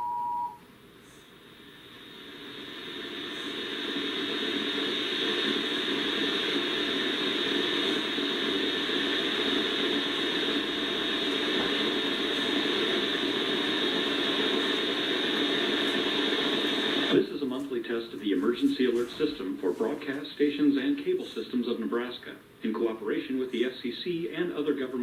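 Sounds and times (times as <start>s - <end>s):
steady static hiss: 0.0s - 25.0s.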